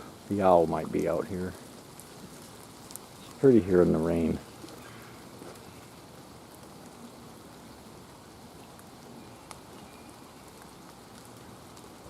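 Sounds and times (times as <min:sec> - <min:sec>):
light rain falling: 0:00.0 - 0:12.0.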